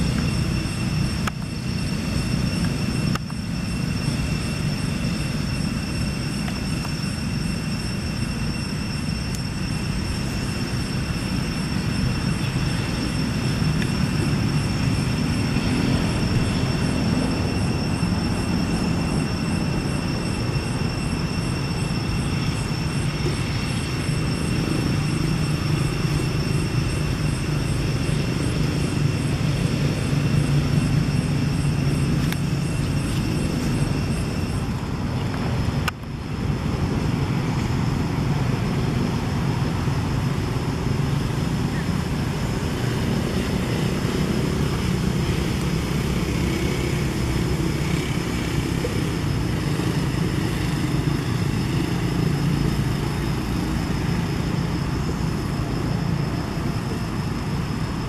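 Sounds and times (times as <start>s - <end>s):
thin high-pitched whine: 0.0s - 58.0s.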